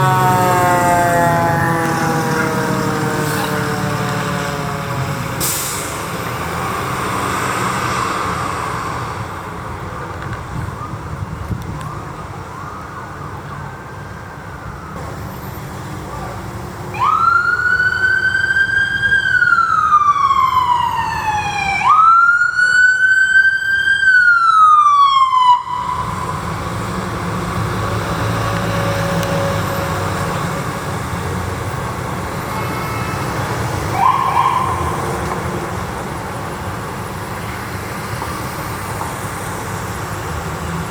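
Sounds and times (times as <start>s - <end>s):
emergency vehicle siren wailing: 0.0s - 40.9s
vehicle engine and road noise: 0.0s - 40.9s.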